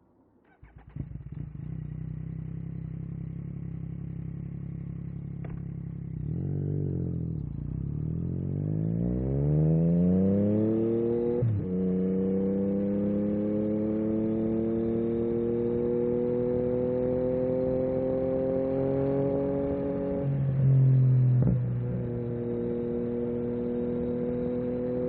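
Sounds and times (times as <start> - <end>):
motorcycle engine idling and revving: 0.5 - 25.0.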